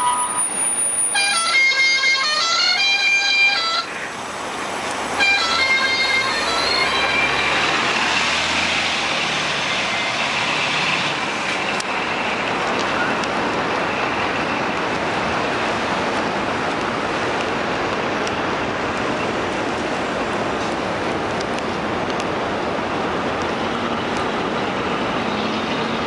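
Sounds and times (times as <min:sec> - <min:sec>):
road traffic rushing: 0:00.0 - 0:26.0.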